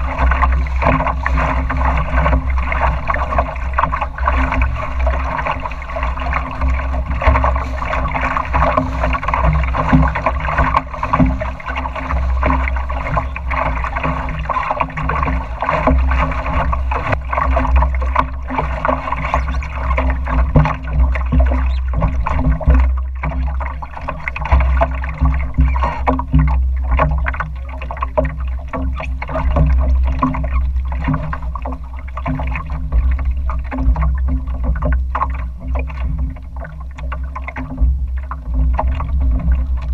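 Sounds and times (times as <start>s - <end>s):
short splashes: 0.0s - 39.9s
water lapping against boat hull: 0.0s - 39.9s.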